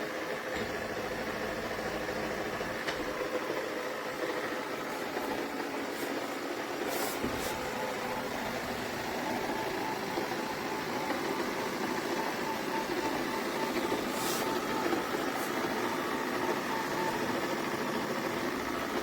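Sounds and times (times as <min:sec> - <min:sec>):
robot vacuum motor and brush whir: 0:00.6 - 0:19.0.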